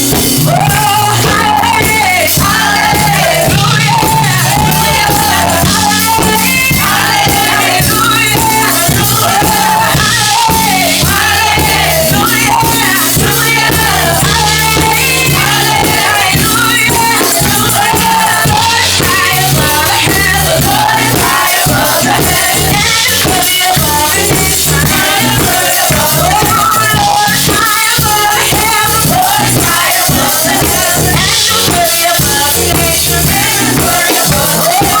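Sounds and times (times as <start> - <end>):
gospel praise music: 0.0 - 35.0
tambourine: 0.0 - 35.0
voices singing: 0.0 - 35.0.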